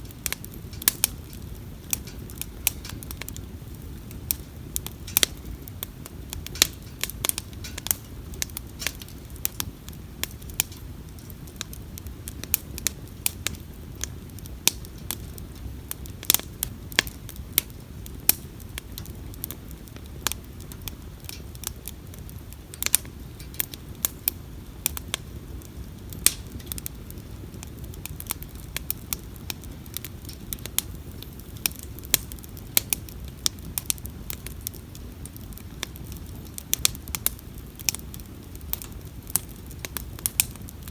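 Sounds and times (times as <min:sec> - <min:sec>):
bonfire crackling and popping: 0:00.0 - 0:40.9
low steady rumble: 0:00.0 - 0:40.9.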